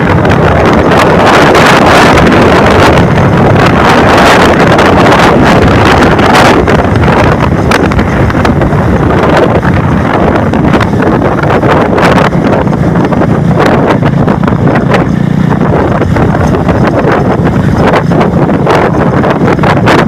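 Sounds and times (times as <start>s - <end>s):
engine running: 0.0s - 20.0s
wind buffeting microphone: 0.0s - 20.0s.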